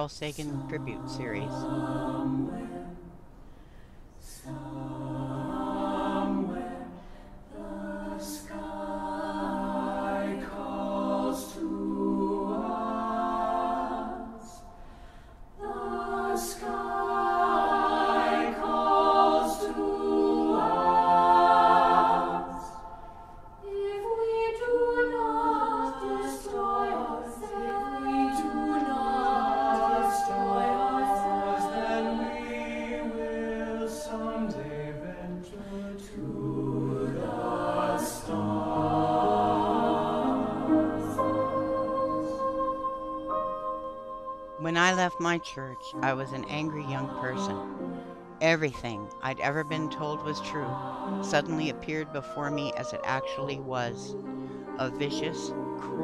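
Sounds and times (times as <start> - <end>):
choir singing: 0.0 - 3.3, 4.2 - 56.0.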